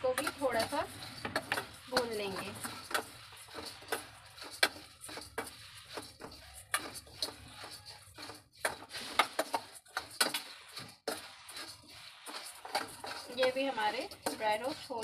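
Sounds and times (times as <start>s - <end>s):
metal spoon scraping a steel pan: 0.0s - 15.0s.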